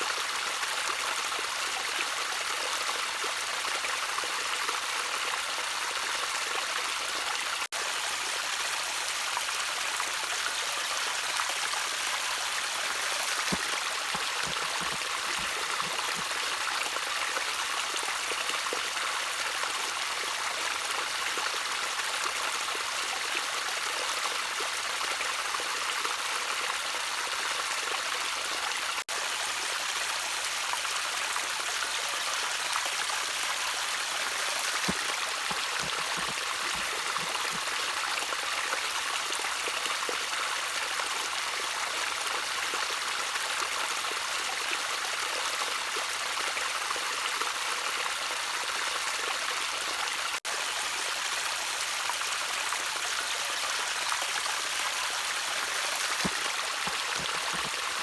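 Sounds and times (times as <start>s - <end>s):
water trickling in a stream: 0.0s - 58.0s.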